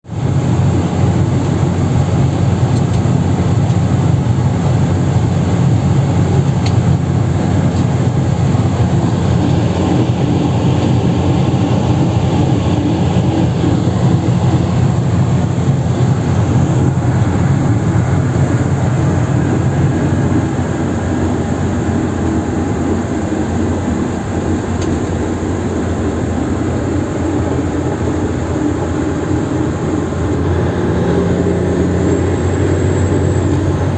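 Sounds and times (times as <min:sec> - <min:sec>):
heavy truck engine rumble: 0:00.0 - 0:33.9.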